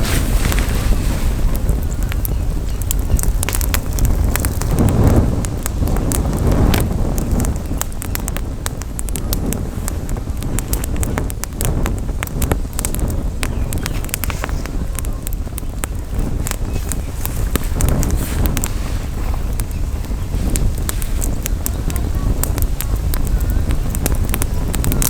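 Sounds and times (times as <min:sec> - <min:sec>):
campfire crackling and popping: 0:00.0 - 0:25.0
wind rumble on microphone: 0:00.0 - 0:25.0.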